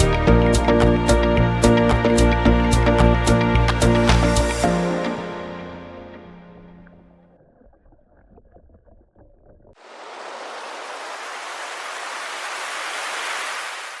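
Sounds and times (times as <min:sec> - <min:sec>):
water noise: 0:00.0 - 0:14.0.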